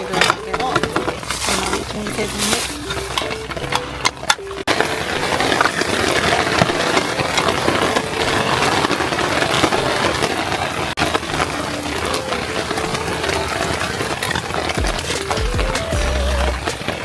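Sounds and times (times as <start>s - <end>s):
faint background music: 0.0s - 17.0s
rain pattering: 0.0s - 17.0s.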